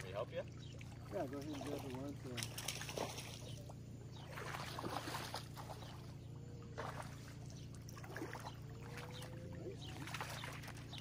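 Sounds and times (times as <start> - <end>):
lake water splashing: 0.0 - 11.0
low background hum: 0.0 - 11.0.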